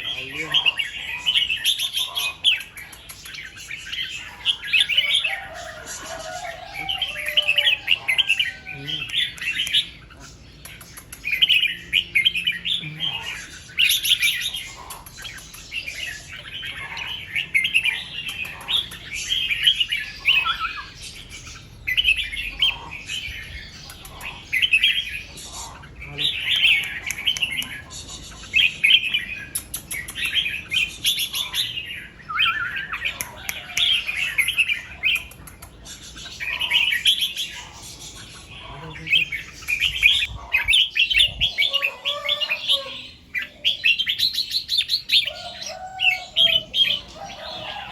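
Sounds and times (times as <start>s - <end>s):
bird singing warbled phrases: 0.0s - 47.9s.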